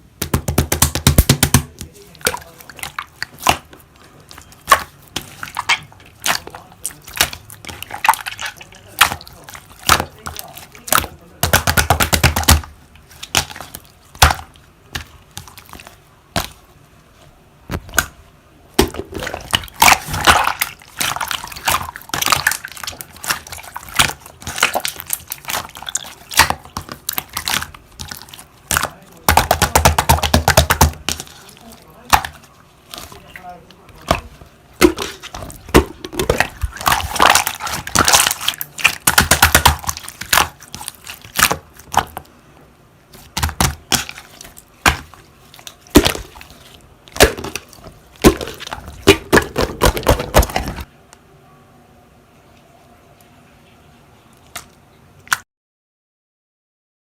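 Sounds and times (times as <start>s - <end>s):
slime squished clicking and crackling: 0.1s - 16.8s, 17.7s - 42.3s, 43.1s - 50.9s.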